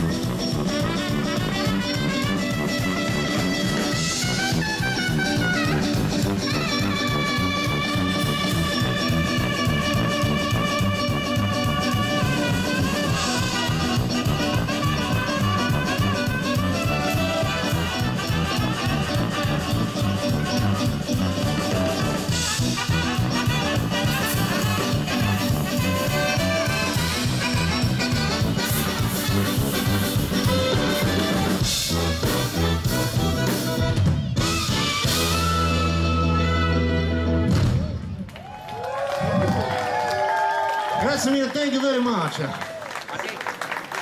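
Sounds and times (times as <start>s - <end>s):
trumpet: 0.0s - 38.0s
brass band playing: 0.0s - 38.2s.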